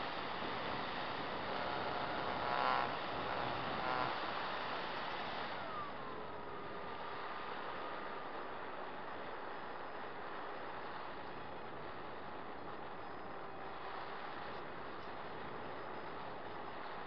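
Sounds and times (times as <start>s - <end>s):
electric motor whine: 0.0s - 17.0s
wind and propeller rush: 0.0s - 17.0s.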